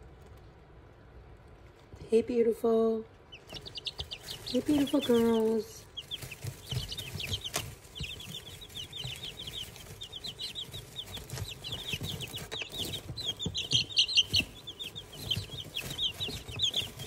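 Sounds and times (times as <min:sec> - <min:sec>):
chicks peeping: 0:01.7 - 0:17.0.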